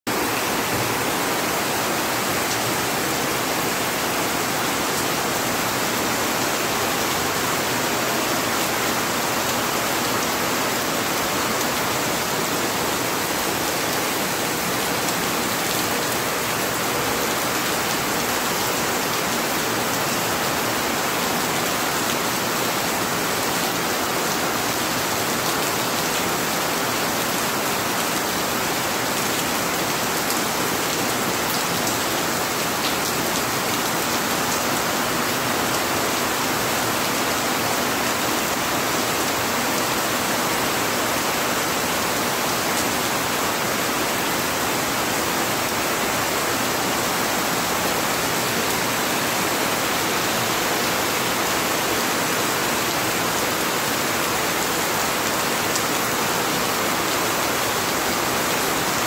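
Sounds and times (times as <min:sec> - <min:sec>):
heavy rain pouring: 0:00.1 - 0:59.0.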